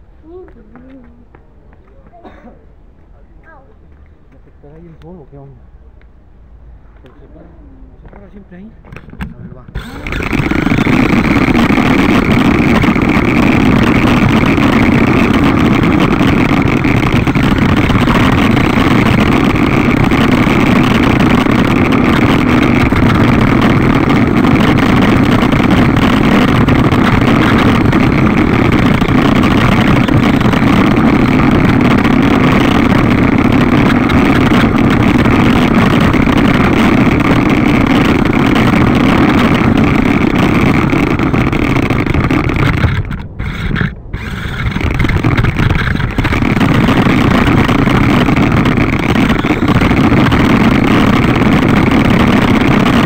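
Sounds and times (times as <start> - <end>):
toy motorcycle motor droning: 9.8 - 53.0.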